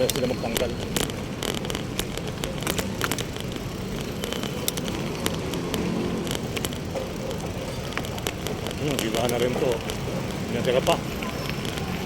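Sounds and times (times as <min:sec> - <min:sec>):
close clicks and rattles: 0:00.0 - 0:10.5
low rumble of traffic: 0:00.0 - 0:12.0.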